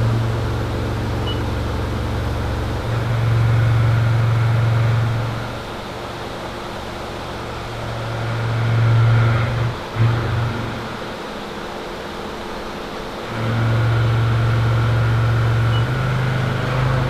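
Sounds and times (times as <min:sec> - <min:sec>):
milling machine hum: 0:00.0 - 0:17.0.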